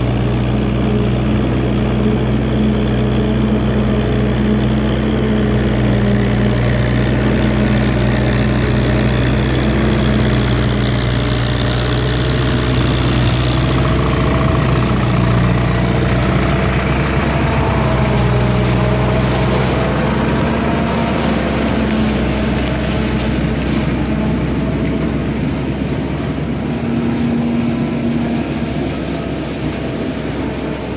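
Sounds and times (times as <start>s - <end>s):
heavy vehicle engine running: 0.0s - 30.9s.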